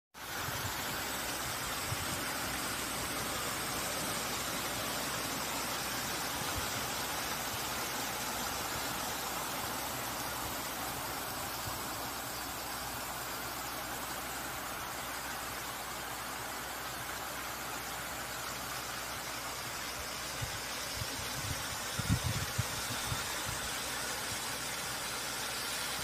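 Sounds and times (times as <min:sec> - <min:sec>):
fountain water splashing: 0:00.2 - 0:26.0.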